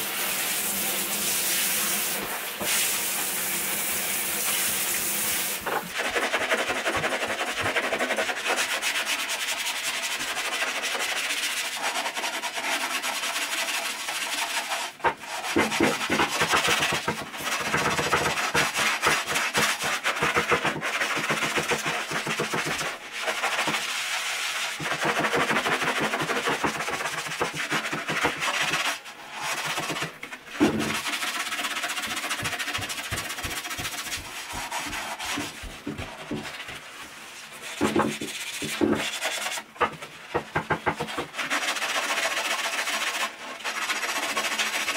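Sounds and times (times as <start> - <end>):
scrubbing toilet bowl: 0.0 - 44.9.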